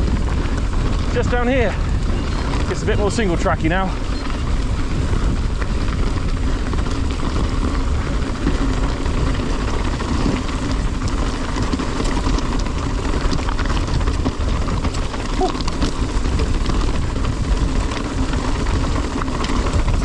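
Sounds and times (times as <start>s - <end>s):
bike rattling clicks: 0.0s - 20.0s
tyres rumbling on trail: 0.0s - 20.0s
wind buffeting microphone: 0.0s - 20.0s.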